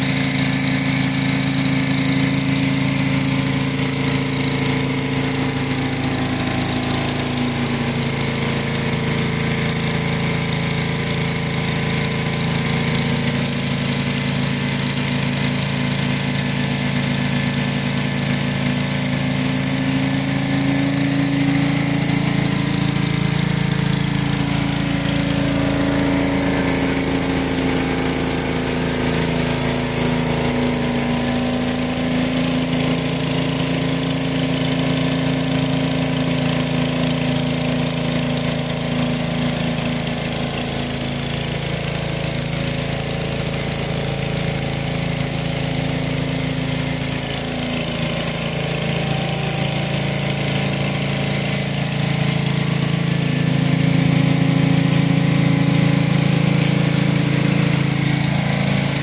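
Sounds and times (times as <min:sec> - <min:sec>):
pressure washer engine running: 0:00.0 - 0:59.0
water jet hissing on concrete: 0:00.0 - 0:59.0.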